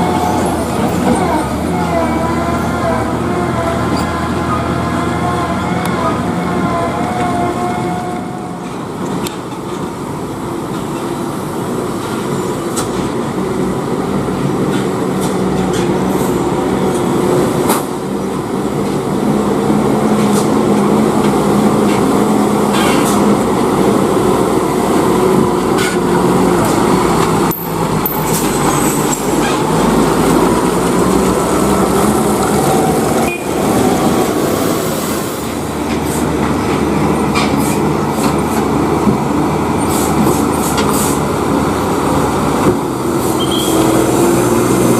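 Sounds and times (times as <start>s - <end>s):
diesel truck engine under load: 0.0s - 44.9s.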